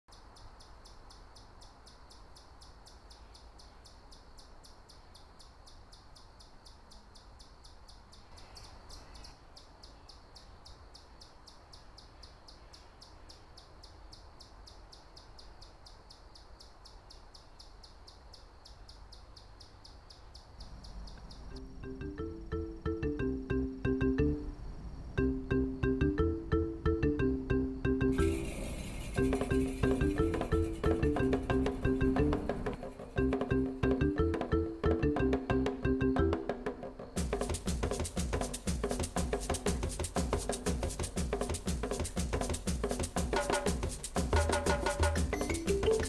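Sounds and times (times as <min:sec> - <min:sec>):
rapid high chirping: 0:00.1 - 0:24.6, 0:25.2 - 0:46.0.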